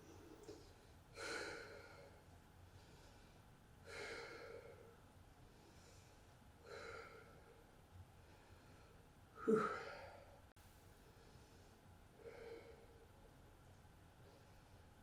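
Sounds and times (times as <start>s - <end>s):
faint breathing: 0.0s - 13.3s, 14.2s - 15.0s.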